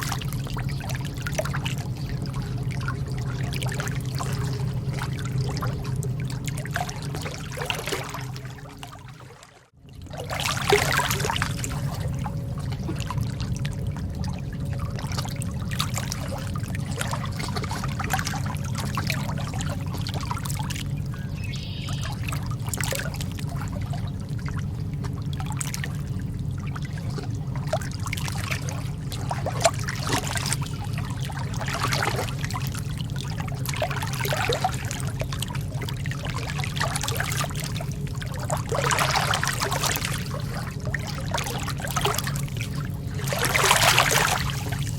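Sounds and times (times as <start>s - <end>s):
lake water lapping: 0.0s - 44.9s
steady low rumble: 0.0s - 44.9s.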